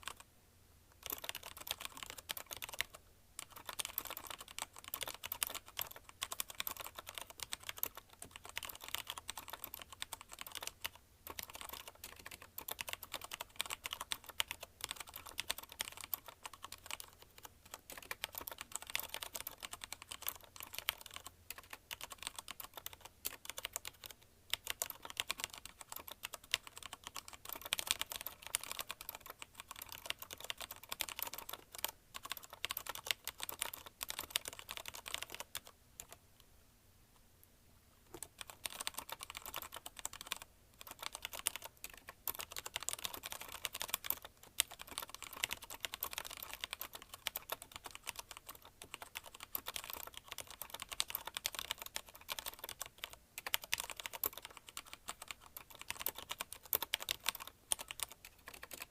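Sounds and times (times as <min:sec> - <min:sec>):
typing on a mechanical keyboard: 0:00.0 - 0:00.2, 0:01.0 - 0:36.2, 0:38.1 - 0:58.9.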